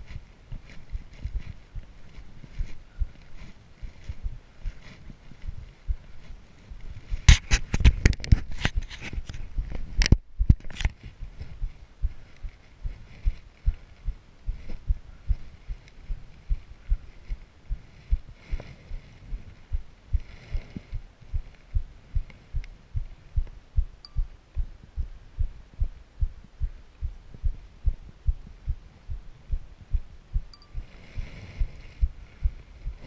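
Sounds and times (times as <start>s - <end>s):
wind or bush brushing hiss: 0.0s - 33.0s.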